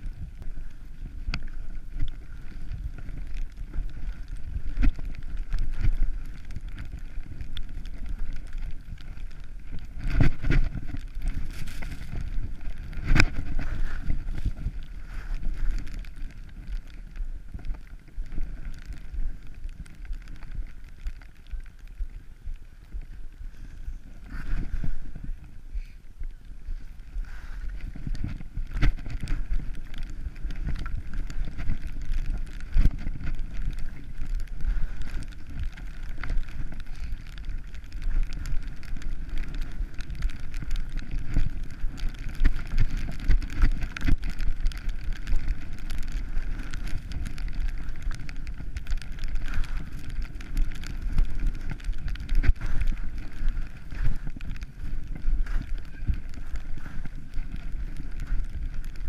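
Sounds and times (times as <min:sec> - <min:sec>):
skis scraping over snow: 0:00.0 - 0:59.0
wind rushing over camera: 0:00.0 - 0:59.0.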